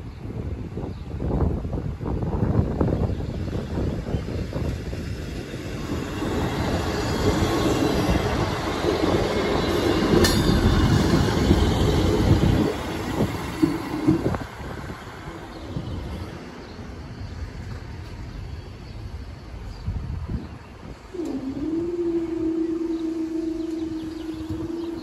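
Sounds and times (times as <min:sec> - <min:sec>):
diesel train passing: 0:00.0 - 0:25.0.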